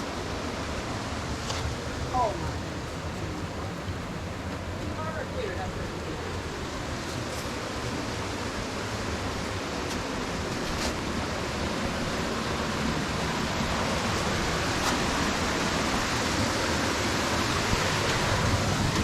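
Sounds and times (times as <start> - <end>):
water rushing over rock: 0.0 - 19.0.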